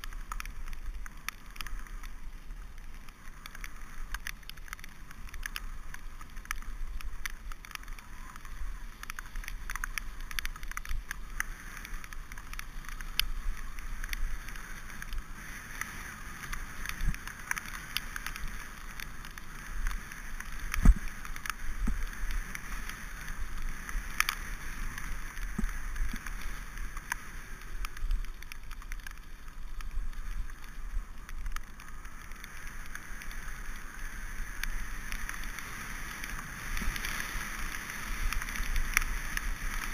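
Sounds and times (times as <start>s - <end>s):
bike tyres rolling on gravel: 0.0s - 39.9s.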